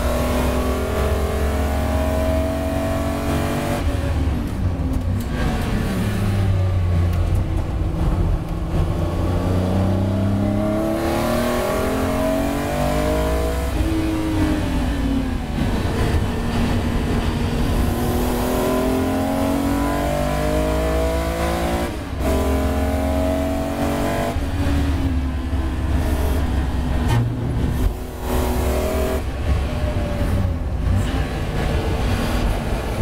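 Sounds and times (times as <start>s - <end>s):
race car engine accelerating: 0.0s - 4.6s, 5.2s - 33.0s.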